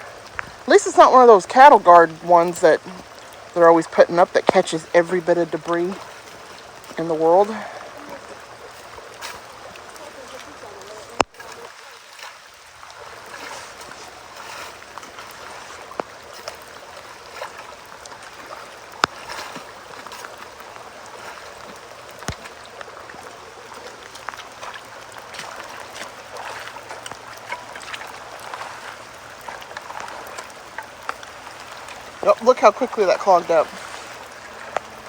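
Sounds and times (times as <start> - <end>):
creek water gurgling into culvert: 0.0 - 35.0.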